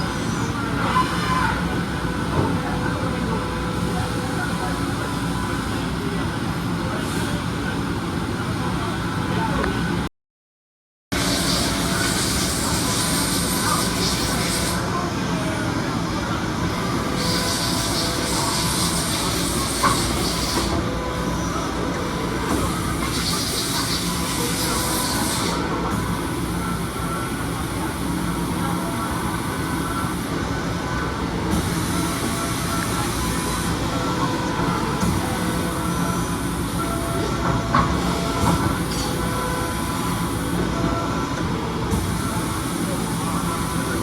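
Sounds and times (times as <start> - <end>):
machine whirring and humming: 0.0 - 10.0, 11.2 - 44.0.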